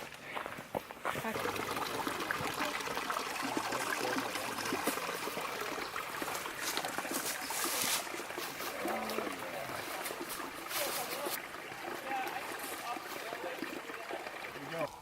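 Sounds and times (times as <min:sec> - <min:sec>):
stream trickling over rocks: 0:00.0 - 0:15.0.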